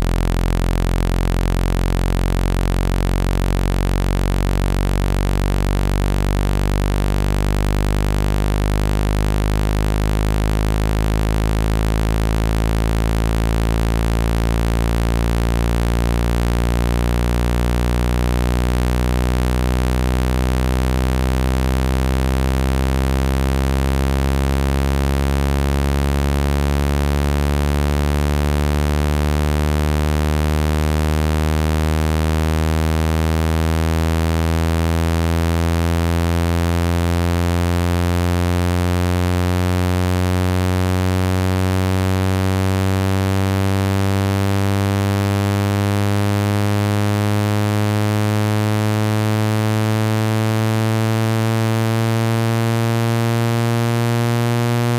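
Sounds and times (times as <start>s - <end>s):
buzzy low synthetic tone rising: 0.0s - 54.9s.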